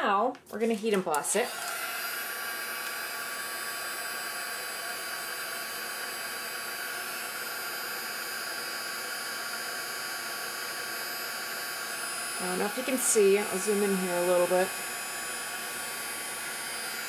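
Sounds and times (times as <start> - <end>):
heat gun fan hiss and whine: 1.3 - 17.0.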